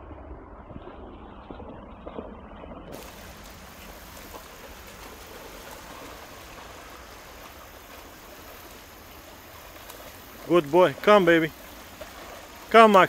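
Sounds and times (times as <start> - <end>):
creek water flowing: 0.0 - 13.0
dog splashing through water: 1.0 - 13.0.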